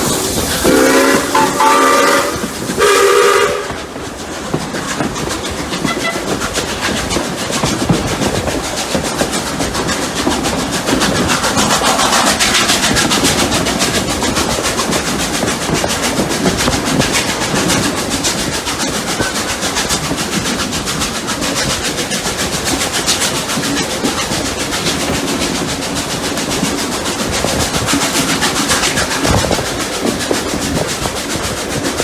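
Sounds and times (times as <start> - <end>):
steam locomotive exhaust beats: 0.0 - 32.0
wheels clattering on rail: 0.0 - 32.0.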